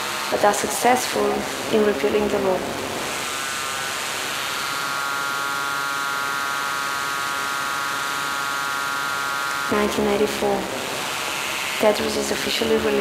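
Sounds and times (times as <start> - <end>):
electronic drone: 0.0 - 13.0.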